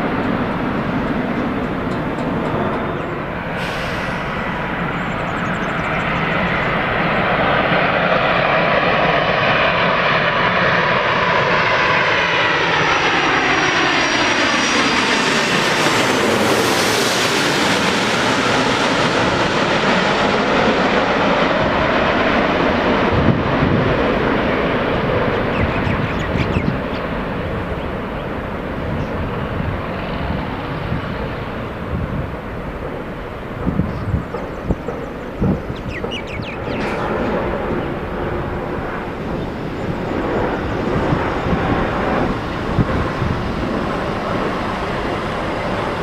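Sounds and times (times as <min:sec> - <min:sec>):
jet airliner engine roar: 0:00.0 - 0:46.0.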